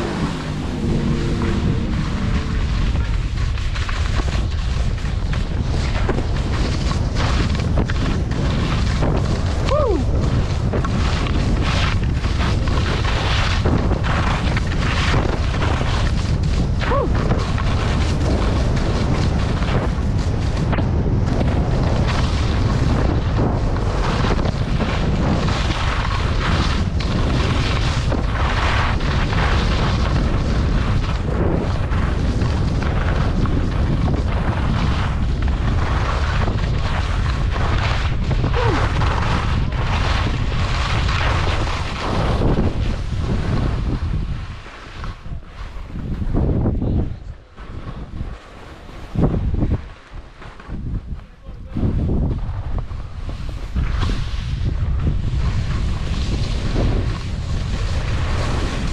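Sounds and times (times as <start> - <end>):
skis scraping on snow: 0.0 - 58.9
wind buffeting microphone: 0.0 - 58.9.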